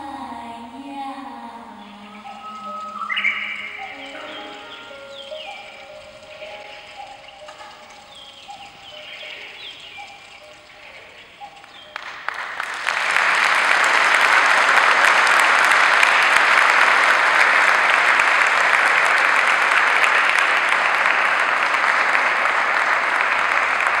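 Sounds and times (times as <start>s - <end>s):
audience applauding: 1.8s - 24.0s.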